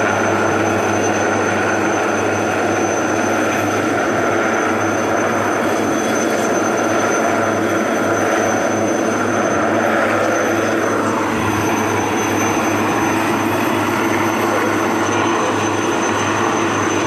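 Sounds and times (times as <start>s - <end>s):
helicopter rotor and engine drone: 0.0s - 17.0s
thin high whine: 0.0s - 17.0s.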